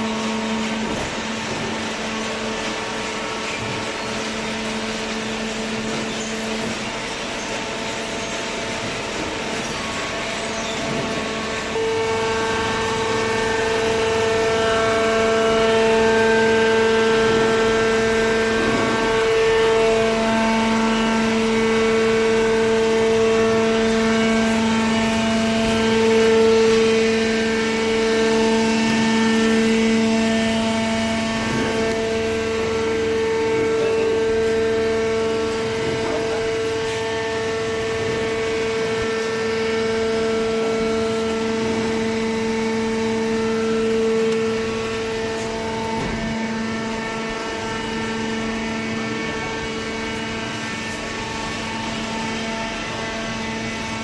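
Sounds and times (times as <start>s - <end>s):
hydraulic pump motor humming: 0.0s - 54.0s.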